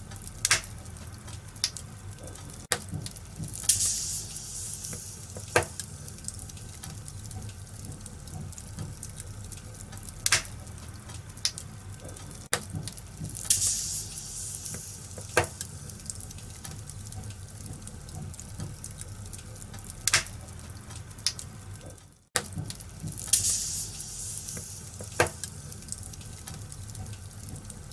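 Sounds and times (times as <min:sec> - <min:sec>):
flames rumbling: 0:00.0 - 0:27.9
wood fire crackling: 0:00.0 - 0:27.9.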